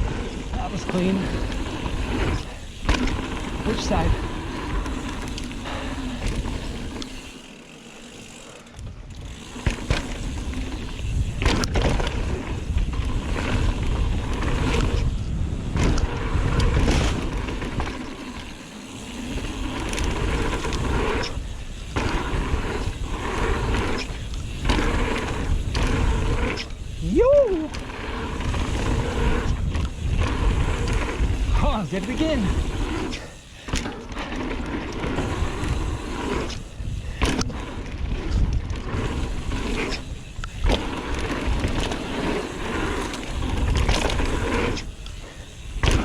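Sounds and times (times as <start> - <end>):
bike clattering over bumps: 0.0 - 46.0
tyres rolling over dirt: 0.0 - 46.0.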